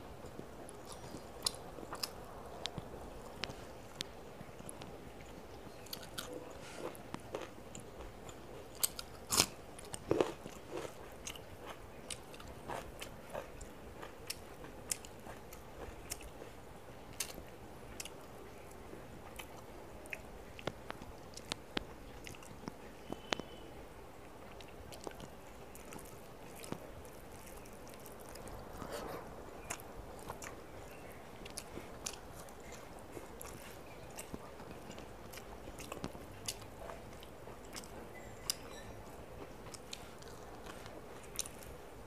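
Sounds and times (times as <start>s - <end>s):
chewing and crunching food: 0.2s - 23.6s, 24.2s - 42.0s.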